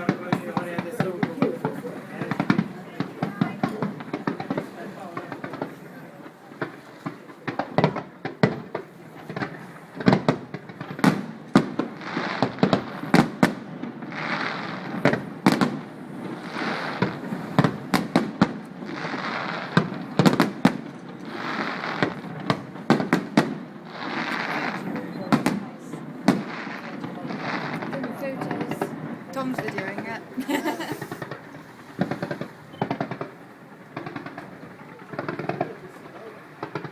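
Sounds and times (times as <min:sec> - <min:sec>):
fireworks bangs: 0:00.0 - 0:36.9
fireworks crackling: 0:00.0 - 0:36.9.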